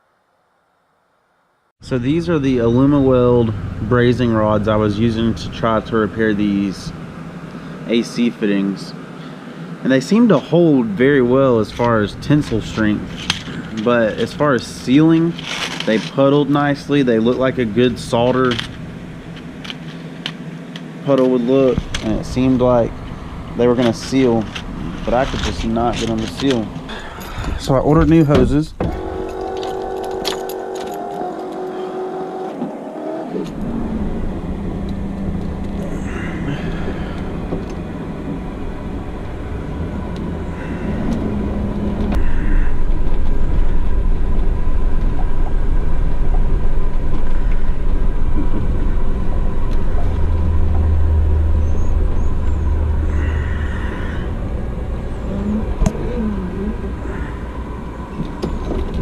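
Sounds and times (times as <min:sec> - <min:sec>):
vehicle engine rumbling: 0:01.8 - 0:59.0.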